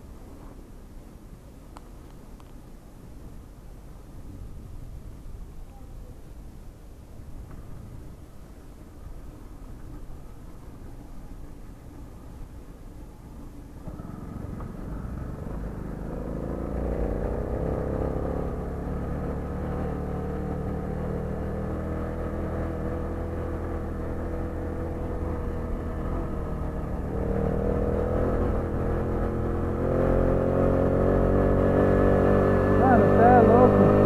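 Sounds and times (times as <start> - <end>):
wind and road rumble: 0.0 - 34.0.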